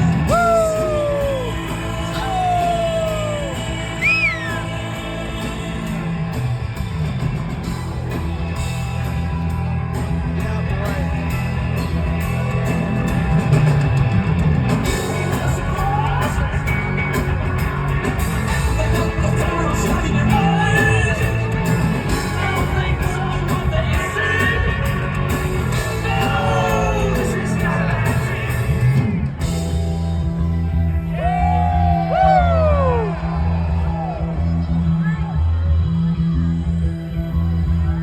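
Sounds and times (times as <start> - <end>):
live rock band playing: 0.0 - 34.9
heavy bass line: 0.0 - 38.0.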